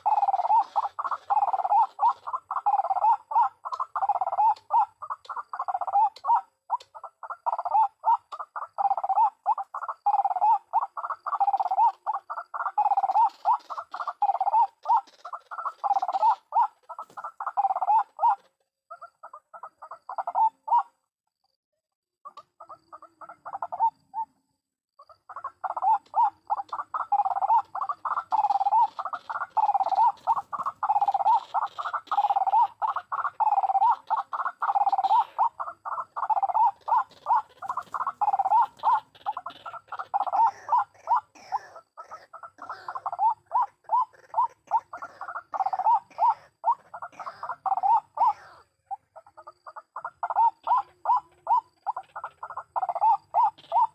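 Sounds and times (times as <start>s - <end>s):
waterhen calling repeatedly: 0.0s - 21.1s, 22.2s - 24.4s, 25.0s - 53.9s.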